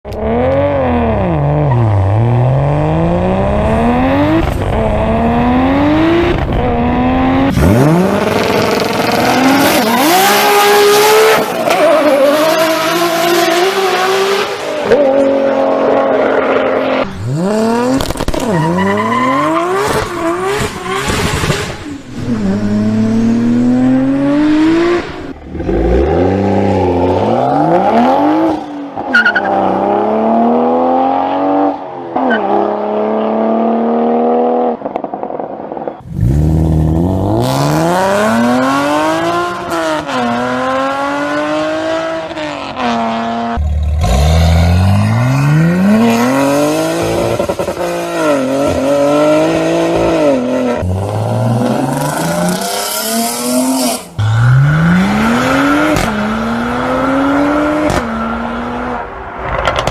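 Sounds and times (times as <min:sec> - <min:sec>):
car engines revving hard: 0:00.1 - 0:59.9.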